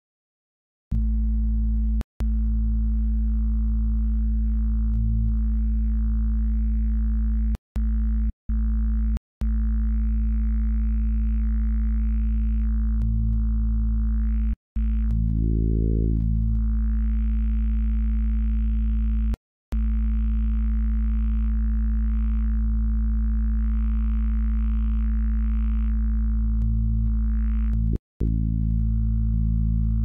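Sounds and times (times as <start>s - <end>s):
sustained low synthesizer tone: 0.9s - 30.0s.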